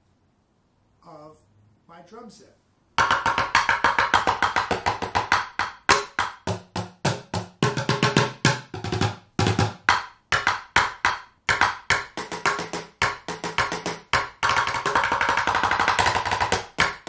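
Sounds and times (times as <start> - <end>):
drumsticks striking plastic buckets: 3.0 - 17.0.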